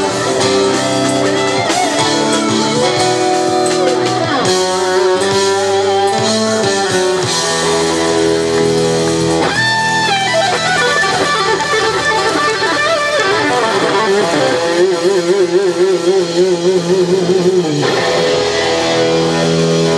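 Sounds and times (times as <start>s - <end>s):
band chords: 0.0s - 19.9s
lead guitar solo: 0.0s - 19.9s.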